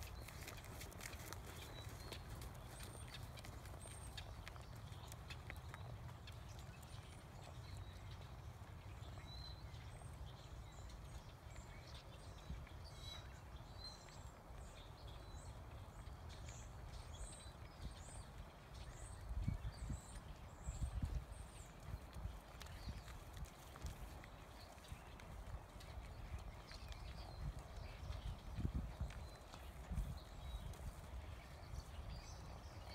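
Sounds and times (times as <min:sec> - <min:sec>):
horse hoofbeats on dirt: 0:00.0 - 0:32.9.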